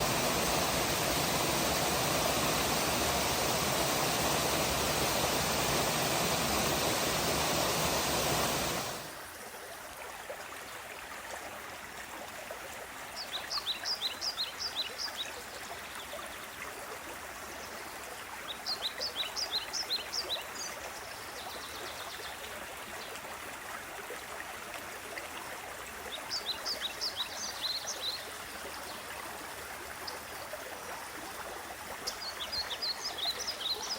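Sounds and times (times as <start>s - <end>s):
running stream: 0.0s - 33.9s
waterfall: 0.0s - 33.9s.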